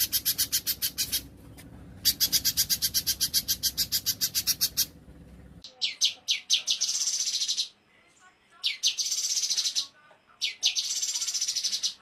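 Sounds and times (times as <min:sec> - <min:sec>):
songbird singing trills: 0:00.0 - 0:01.3, 0:02.0 - 0:05.0, 0:05.6 - 0:07.8, 0:08.5 - 0:12.0.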